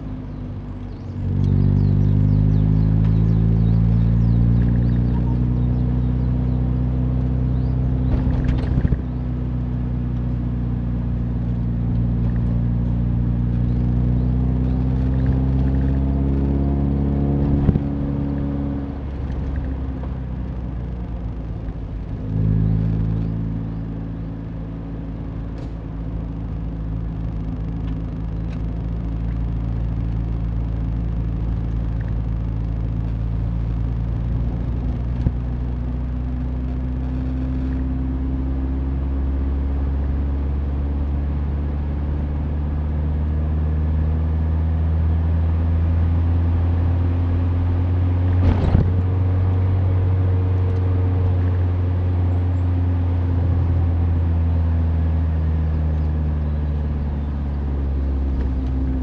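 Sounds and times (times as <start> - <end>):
car engine running: 0.0 - 59.0
road and tyre noise: 0.0 - 59.0.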